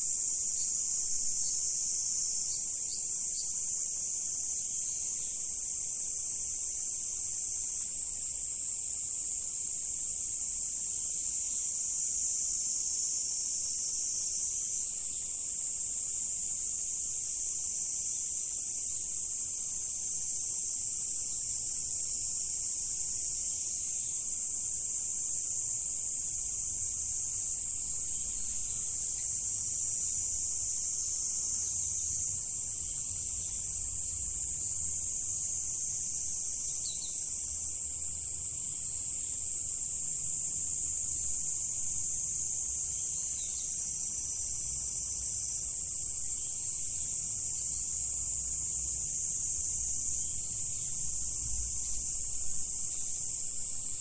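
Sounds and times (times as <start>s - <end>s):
insects calling: 0.0s - 54.0s.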